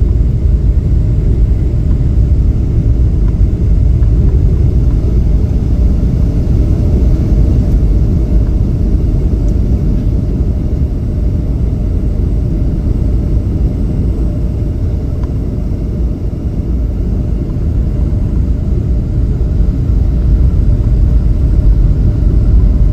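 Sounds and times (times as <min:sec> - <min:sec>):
airliner cabin engine rumble: 0:00.0 - 0:22.9.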